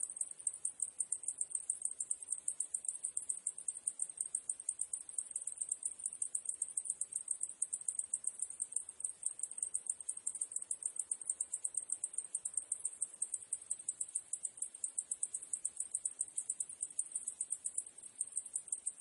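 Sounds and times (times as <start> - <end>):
cicadas chorus: 0.0 - 19.0.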